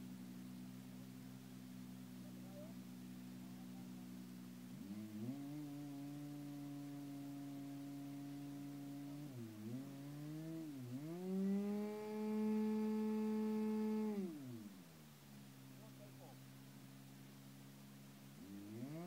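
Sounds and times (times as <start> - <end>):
model aeroplane engine running: 0.0 - 9.7, 10.6 - 19.0.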